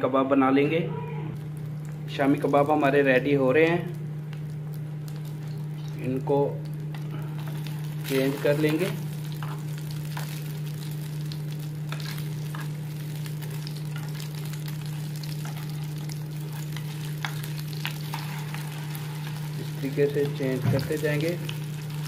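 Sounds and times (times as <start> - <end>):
low hum: 0.7 - 22.0
food sizzling in hot oil: 1.4 - 22.0.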